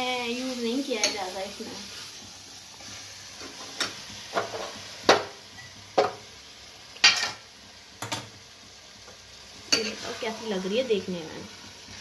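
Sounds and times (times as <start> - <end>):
faint hiss of cooking gravy: 0.0 - 12.0.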